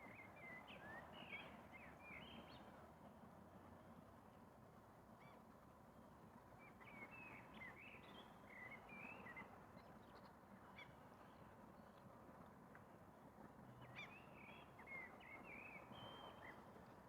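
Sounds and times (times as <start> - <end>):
faint outdoor background hiss: 0.0 - 17.0.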